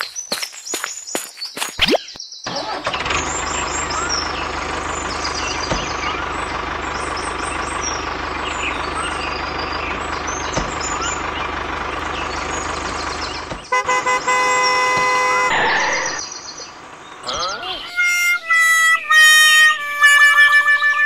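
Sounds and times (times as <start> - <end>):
tractor engine running: 2.5 - 21.0.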